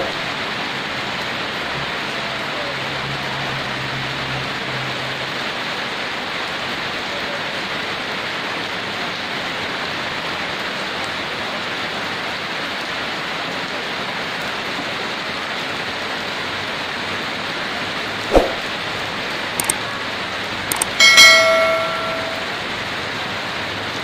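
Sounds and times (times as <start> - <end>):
heavy rain falling: 0.0 - 20.7, 22.3 - 24.0.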